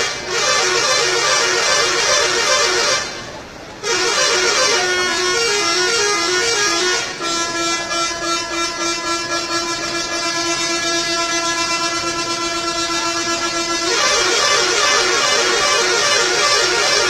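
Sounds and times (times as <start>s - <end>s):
bus multi-tone horn: 0.0s - 17.0s.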